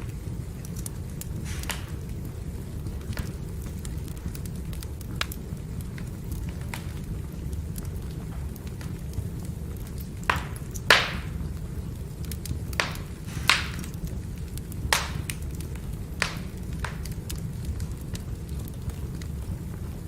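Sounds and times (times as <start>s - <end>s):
fire low rumble: 0.0s - 20.0s
wood fire crackling and popping: 0.0s - 20.0s.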